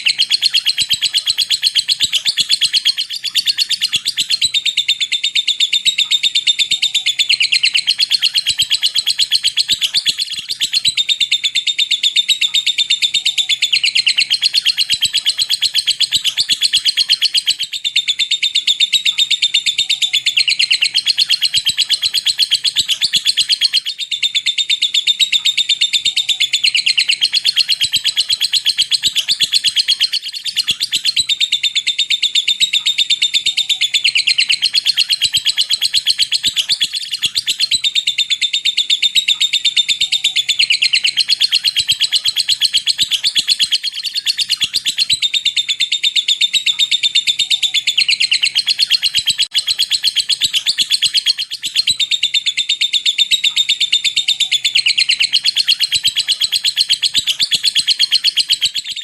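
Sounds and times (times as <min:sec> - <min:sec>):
lovebird chattering: 0:00.0 - 0:59.0.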